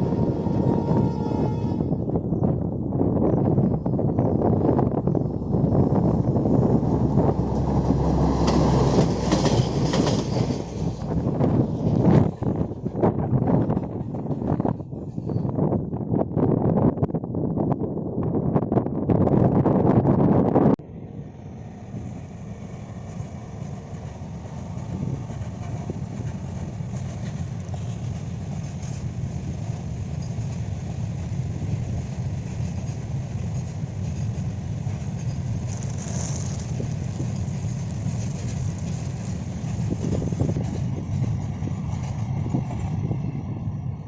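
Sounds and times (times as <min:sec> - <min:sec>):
train rumbling past: 0:00.0 - 0:16.7, 0:19.4 - 0:44.0.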